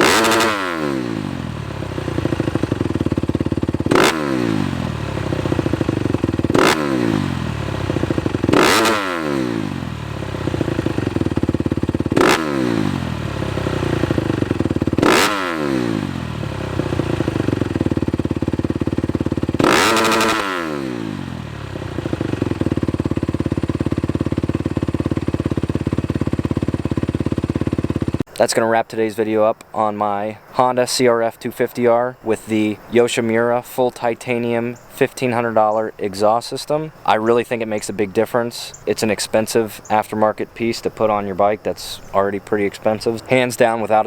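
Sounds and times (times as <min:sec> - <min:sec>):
motorcycle engine revving and idling: 0:00.0 - 0:28.3, 0:32.6 - 0:44.0.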